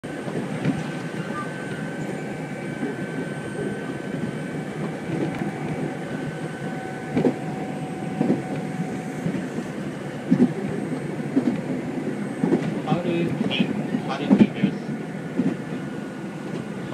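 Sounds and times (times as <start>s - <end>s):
train rumbling: 0.0s - 16.9s.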